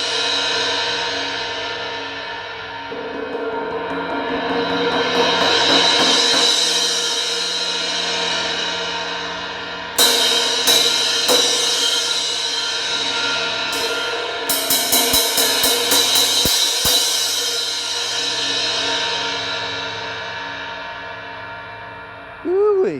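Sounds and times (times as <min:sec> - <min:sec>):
crash cymbal struck and ringing: 0:00.0 - 0:22.3.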